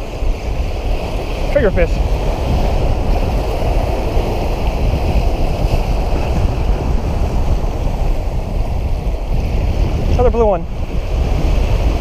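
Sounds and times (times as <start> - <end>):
surf washing against rocks: 0.0 - 12.0
wind on microphone: 0.0 - 12.0.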